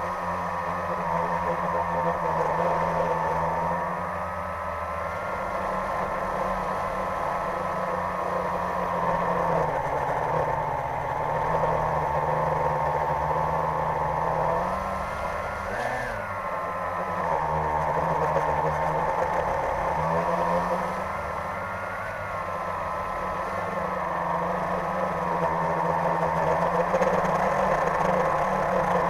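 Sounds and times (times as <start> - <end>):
drone propellers whining: 0.0 - 29.0.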